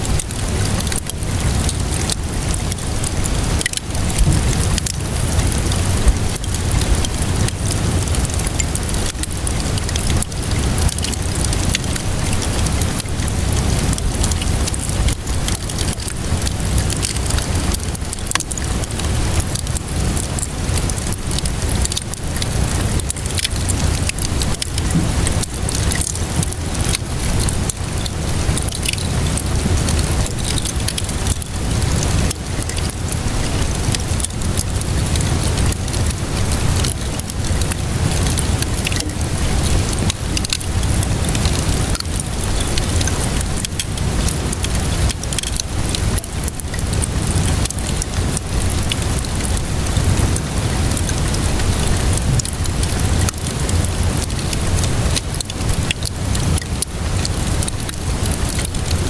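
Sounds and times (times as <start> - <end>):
rainfall hiss: 0.0 - 59.0
wood fire crackling: 0.0 - 59.0.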